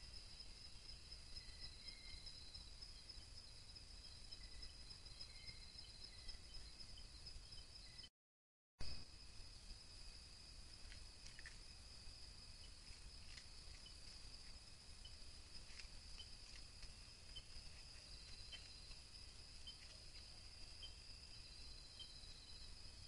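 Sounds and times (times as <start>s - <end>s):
faint chirps: 0.0s - 8.1s, 8.8s - 23.0s
insects trilling: 0.0s - 8.1s, 8.9s - 23.0s.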